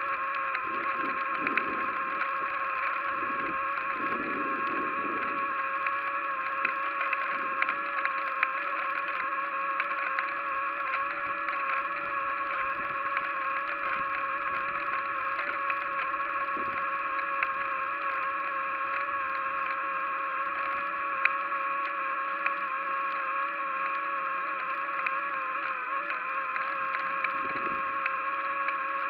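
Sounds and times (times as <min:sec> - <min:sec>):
bicycle running whine: 0:00.0 - 0:29.0
faint ticks: 0:00.0 - 0:29.0.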